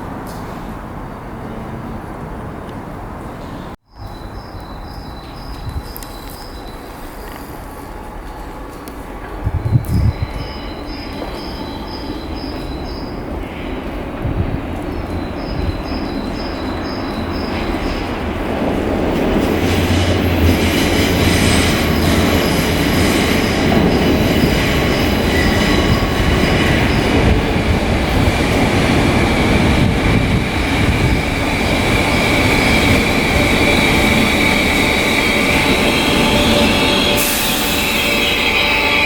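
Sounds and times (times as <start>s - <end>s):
train wheel and rail noise: 0.0s - 39.0s.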